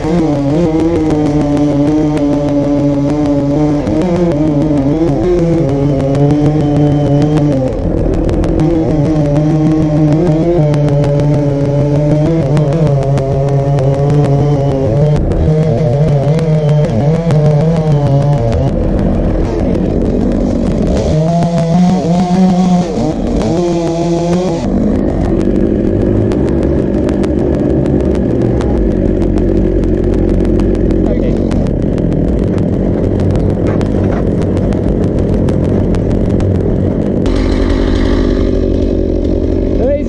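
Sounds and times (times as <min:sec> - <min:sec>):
chainsaw cutting wood: 0:00.0 - 0:31.0, 0:37.2 - 0:39.9.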